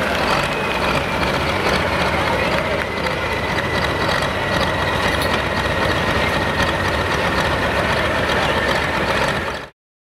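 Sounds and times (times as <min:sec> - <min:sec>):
constant high whine: 0:00.0 - 0:09.7
tractor diesel engine idling: 0:00.0 - 0:09.7.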